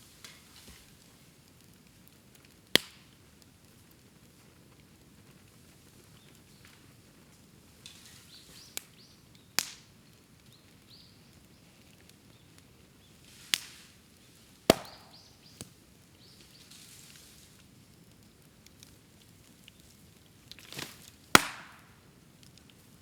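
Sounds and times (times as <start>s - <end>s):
bamboo popping in fire: 0.0s - 23.0s
fire fizzing hiss: 0.0s - 23.0s.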